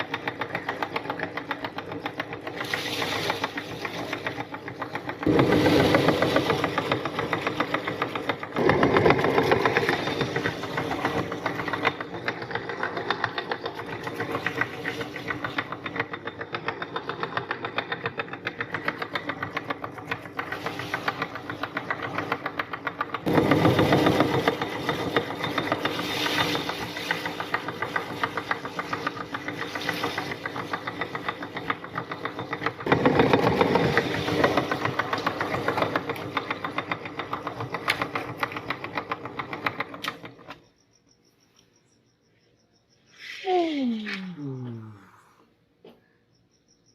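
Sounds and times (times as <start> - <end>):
meat grinder motor grinding: 0.0 - 40.6.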